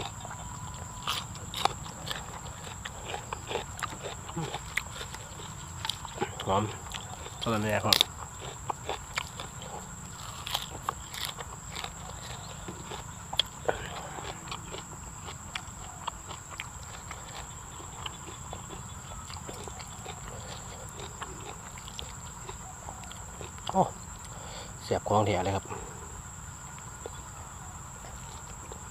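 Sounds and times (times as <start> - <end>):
man chewing with wet mouth clicks: 0.0 - 24.4, 26.6 - 27.3
high insect drone: 0.0 - 28.9.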